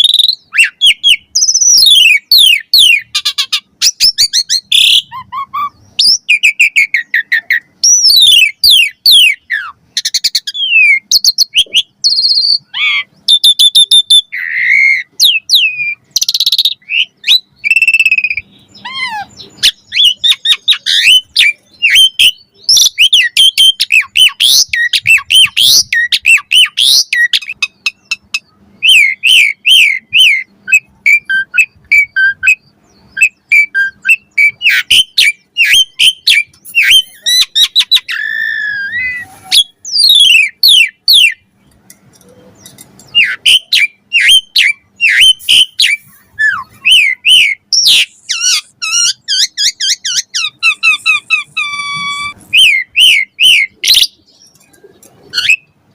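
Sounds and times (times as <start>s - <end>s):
starling singing whistles and chatter: 0.0s - 41.5s, 42.1s - 55.8s.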